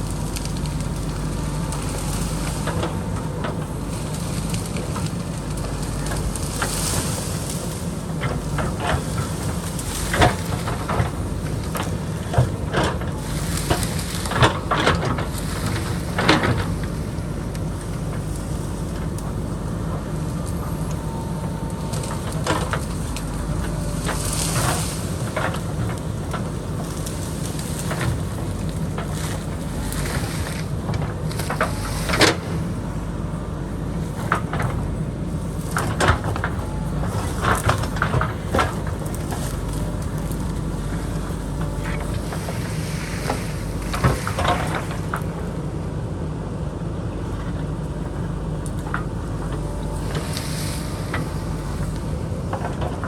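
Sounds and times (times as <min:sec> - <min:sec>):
diesel engine running under load: 0:00.0 - 0:53.0.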